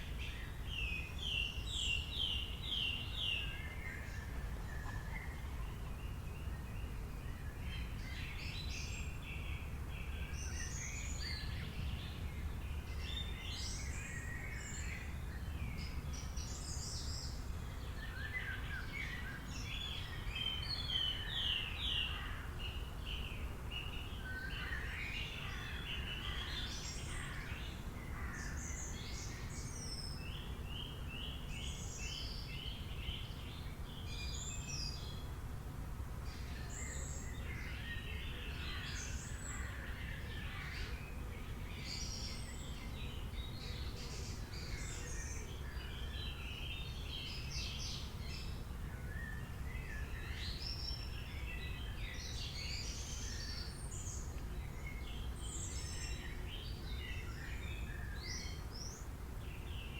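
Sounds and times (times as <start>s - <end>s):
wild birds chirping and singing: 0.0s - 59.9s.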